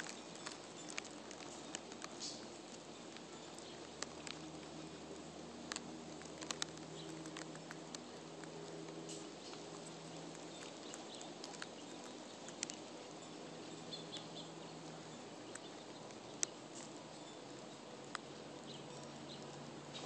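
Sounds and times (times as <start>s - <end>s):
guinea pigs chewing grass: 0.0s - 20.0s.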